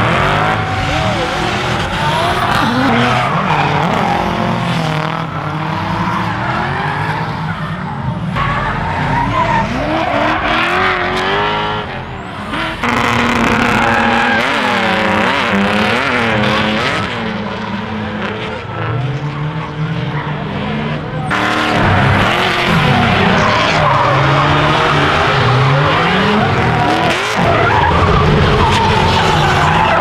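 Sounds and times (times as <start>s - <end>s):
car engines revving: 0.0s - 30.0s
tyres skidding: 0.0s - 30.0s.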